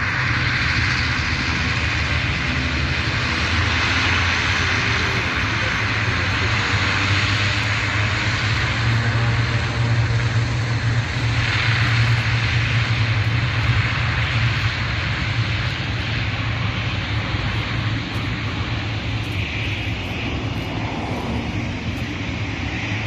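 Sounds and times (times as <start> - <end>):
airliner engines roaring: 0.0 - 23.0.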